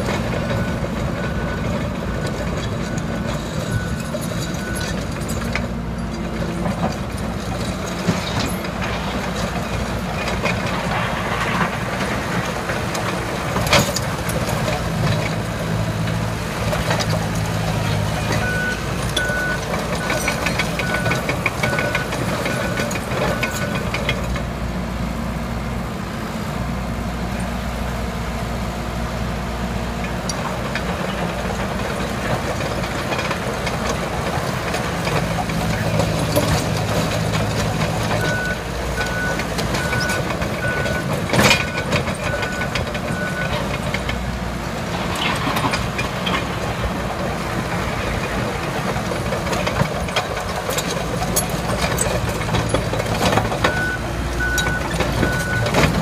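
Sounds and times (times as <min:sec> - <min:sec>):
dozer diesel engine running: 0:00.0 - 0:56.0.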